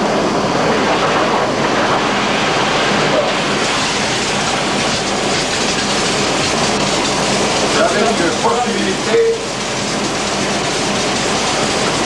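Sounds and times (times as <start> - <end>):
water bubbling and churning: 0.8 - 12.0.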